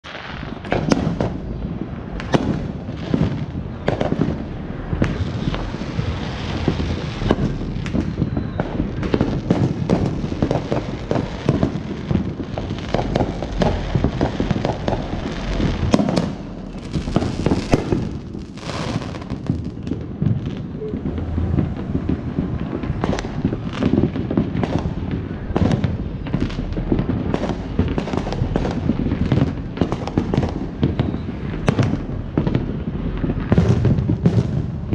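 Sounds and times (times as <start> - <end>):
fireworks bangs and cracks: 0.0 - 34.9
constant rumble: 0.4 - 34.9.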